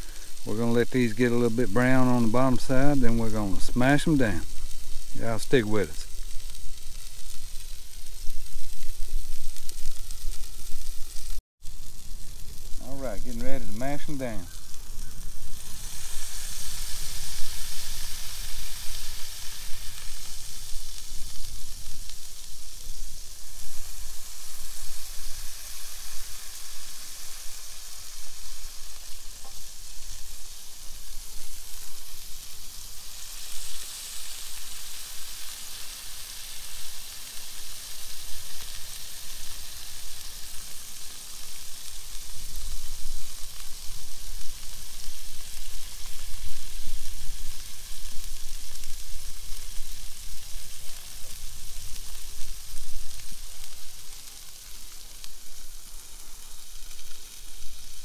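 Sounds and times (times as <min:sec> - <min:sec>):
burger patties sizzling on griddle: 0:00.0 - 0:58.0.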